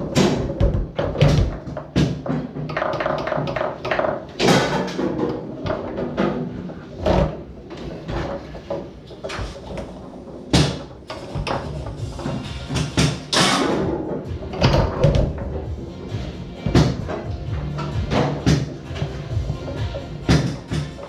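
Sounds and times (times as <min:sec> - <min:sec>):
hard foosball shots: 0:00.0 - 0:07.4, 0:08.1 - 0:15.6, 0:16.6 - 0:17.2, 0:17.8 - 0:18.8, 0:20.2 - 0:21.0
foosball ball knocks and clacks: 0:00.0 - 0:21.0.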